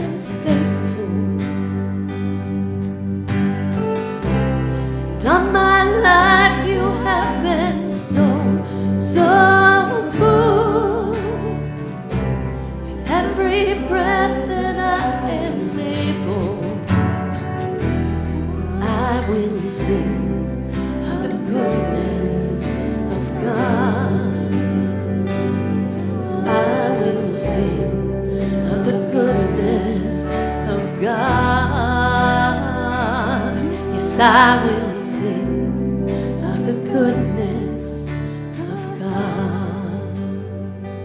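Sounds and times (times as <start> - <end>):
person singing: 0.0 - 2.8, 4.7 - 41.0
sustained bass notes: 0.0 - 41.0.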